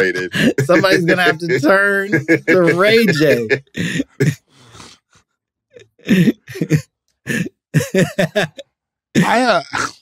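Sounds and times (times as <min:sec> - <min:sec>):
men laughing: 0:00.0 - 0:04.5, 0:05.8 - 0:09.4.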